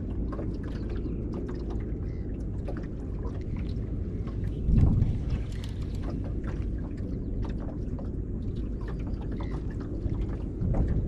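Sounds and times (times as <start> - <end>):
water lapping against boat hull: 0.0 - 11.0
wind rumble on microphone: 0.0 - 11.0.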